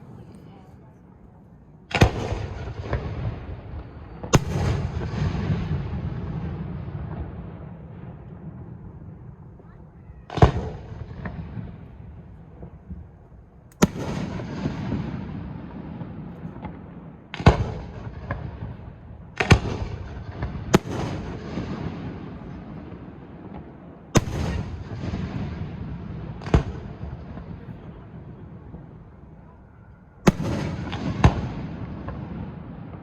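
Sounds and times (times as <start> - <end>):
fireworks rumble and crackle: 0.0 - 33.0
fireworks booming: 1.9 - 29.4, 30.2 - 33.0.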